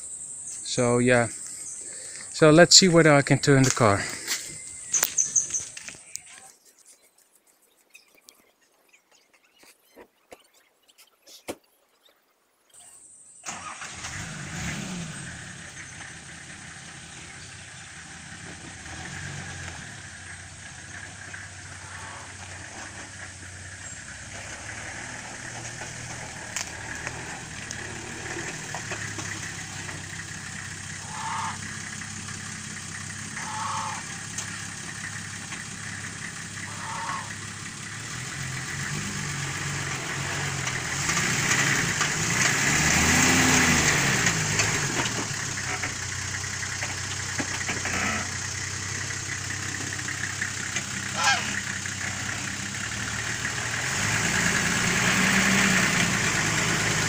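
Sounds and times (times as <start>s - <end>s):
car engine starting and running: 0.0s - 6.2s, 13.0s - 57.0s.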